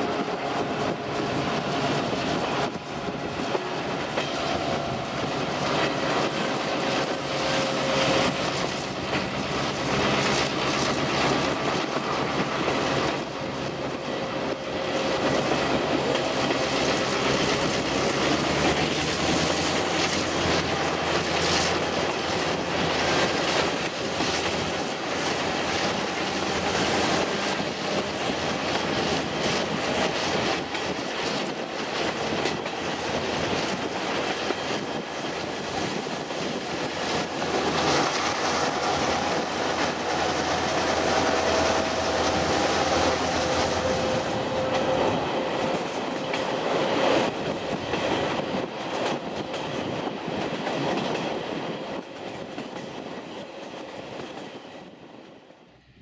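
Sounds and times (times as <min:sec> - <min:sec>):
train wheels clacking over rail joints: 0:00.0 - 0:55.0.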